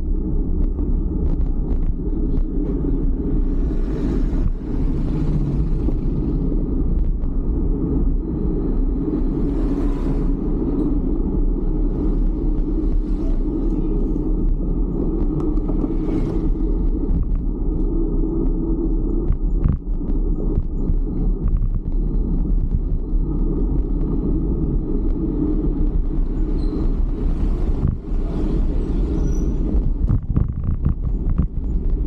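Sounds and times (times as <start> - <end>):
road noise: 0.0 - 32.0
wind on microphone: 0.0 - 32.0.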